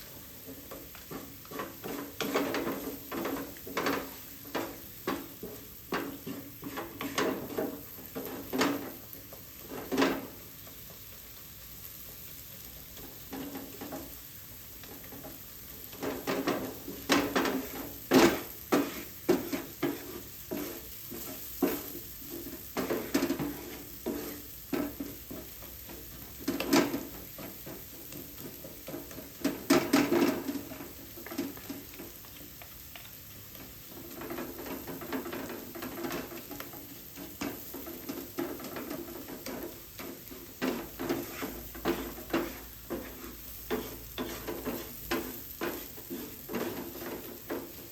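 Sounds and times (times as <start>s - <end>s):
utensil scraping and knocking a pan: 0.0s - 11.3s, 12.0s - 14.2s, 14.8s - 47.9s
low sizzle: 0.0s - 47.9s.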